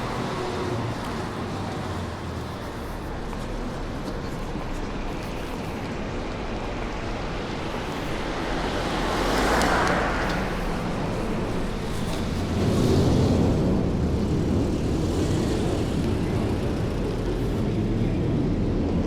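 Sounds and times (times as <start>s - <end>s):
vehicle passing: 0.0s - 6.0s, 7.5s - 17.4s
road noise: 0.0s - 19.0s
wind: 0.0s - 19.0s.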